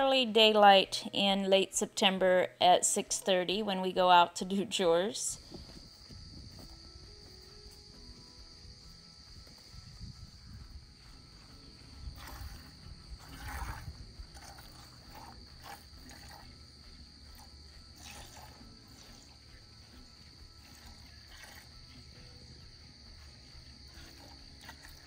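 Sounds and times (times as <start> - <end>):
crickets chirring: 4.6 - 25.0.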